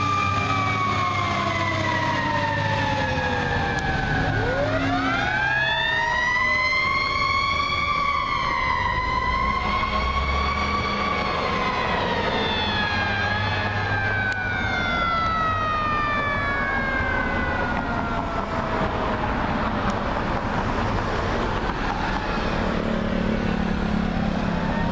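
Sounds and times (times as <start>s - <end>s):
mechanical siren winding down: 0.0s - 19.0s, 23.7s - 24.9s
traffic noise: 0.0s - 24.9s.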